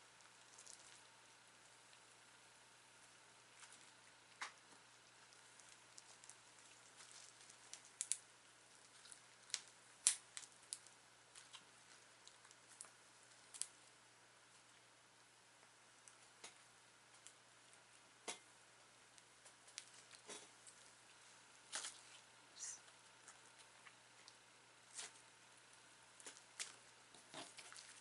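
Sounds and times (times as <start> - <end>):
foam clay clicks and crackles: 0.0 - 28.0.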